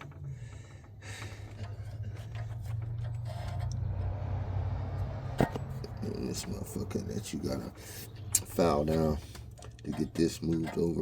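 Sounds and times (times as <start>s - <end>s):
metal parts clicking and knocking: 0.0s - 4.2s, 5.3s - 11.0s.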